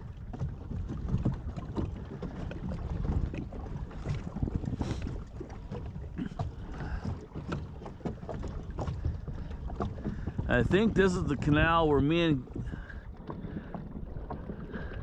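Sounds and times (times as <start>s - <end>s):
water splashing against kayak hull: 0.0s - 15.0s
wind rumbling on microphone: 0.0s - 15.0s.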